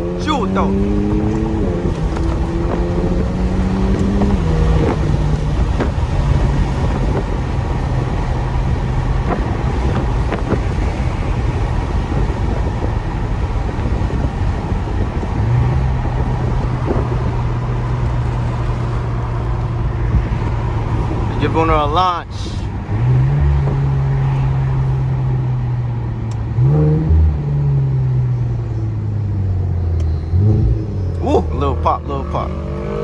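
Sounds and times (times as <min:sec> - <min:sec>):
car exhaust accelerating and droning: 0:00.0 - 0:33.0
exhaust cracks: 0:00.0 - 0:33.0.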